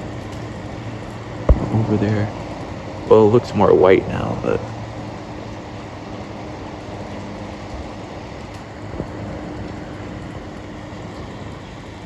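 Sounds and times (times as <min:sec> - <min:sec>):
faint steady hum: 0:00.0 - 0:12.0
gusty wind through trees: 0:00.0 - 0:12.0.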